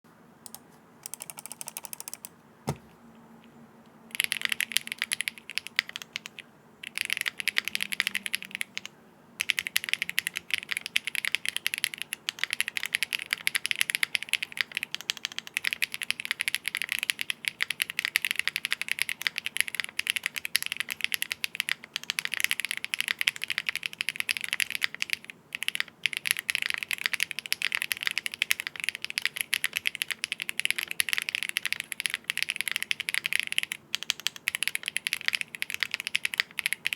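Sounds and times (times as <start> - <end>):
fast typing on mechanical keyboard: 1.1 - 2.3, 4.1 - 36.9.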